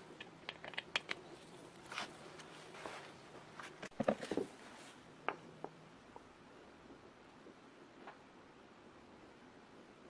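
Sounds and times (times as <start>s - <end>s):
low steady hiss: 0.0s - 10.0s.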